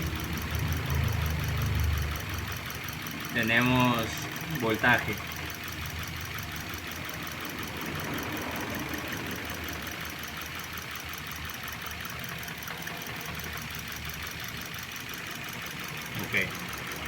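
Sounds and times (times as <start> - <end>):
car engine idling: 0.0 - 17.0
fast regular ticking: 0.0 - 17.0.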